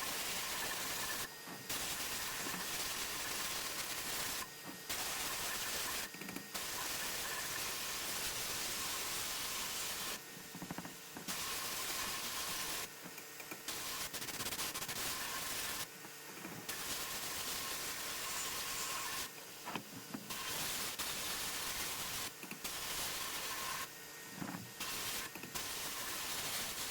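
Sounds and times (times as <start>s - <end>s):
sandblasting air gun hissing: 0.0s - 10.2s, 11.3s - 12.9s, 13.7s - 15.9s, 16.7s - 19.3s, 20.3s - 23.9s, 24.8s - 26.9s.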